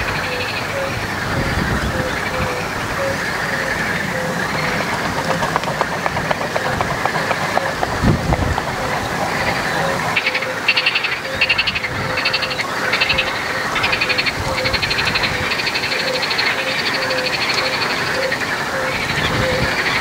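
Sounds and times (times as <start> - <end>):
frog low repeated note: 0.0 - 16.3
frogs rattling calls: 0.0 - 20.0.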